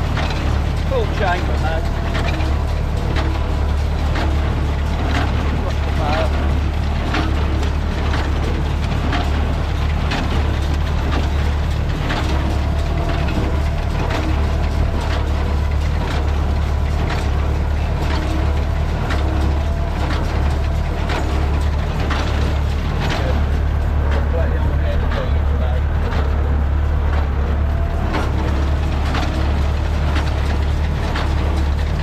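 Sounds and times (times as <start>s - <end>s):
baler mechanical clack: 0.0s - 32.0s
tractor diesel engine running: 0.0s - 32.0s.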